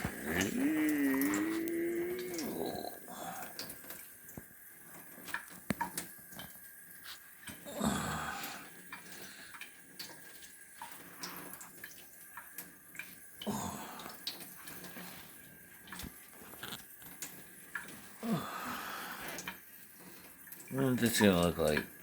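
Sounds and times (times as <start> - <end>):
cat lapping water: 0.0 - 22.0
water running from tap: 0.0 - 22.0.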